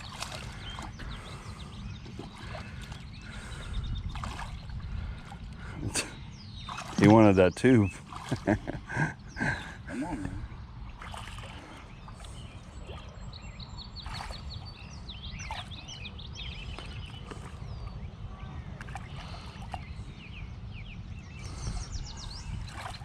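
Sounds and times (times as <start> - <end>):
small birds chirping: 0.0 - 23.0
steady low rumble: 0.0 - 23.0
water sloshing against boat: 0.0 - 23.0.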